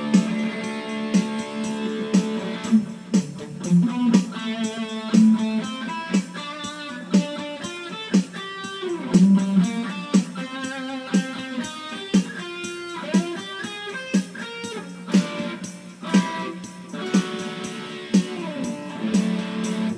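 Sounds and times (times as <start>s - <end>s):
electric guitar melody with slides: 0.0s - 19.9s
sharp percussive hit: 0.0s - 19.9s.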